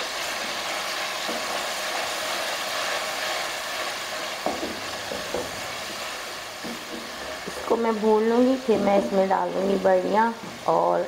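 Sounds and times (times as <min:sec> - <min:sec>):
masala sizzling in hot oil: 0:00.0 - 0:11.0.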